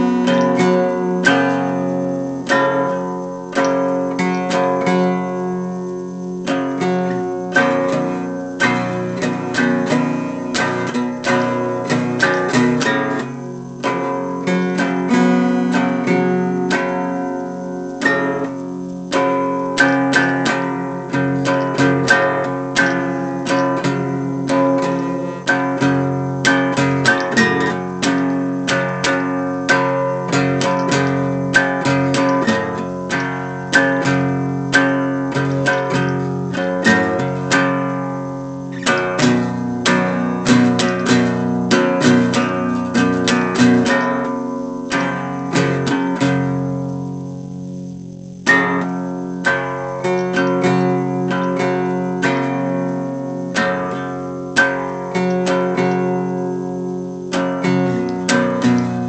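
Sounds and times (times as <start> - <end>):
solo guitar playing: 0.0 - 59.0.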